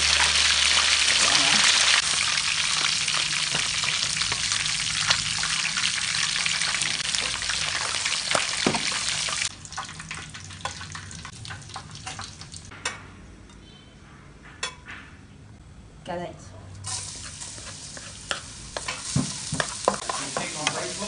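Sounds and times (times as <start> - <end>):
food sizzling in hot oil: 0.0 - 12.7, 16.8 - 21.0.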